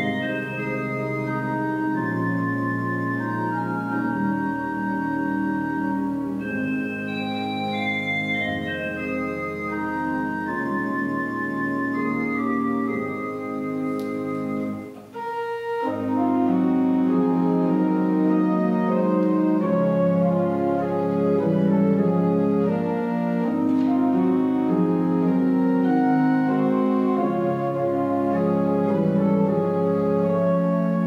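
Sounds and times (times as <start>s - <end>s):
organ playing slow chords: 0.0s - 31.0s.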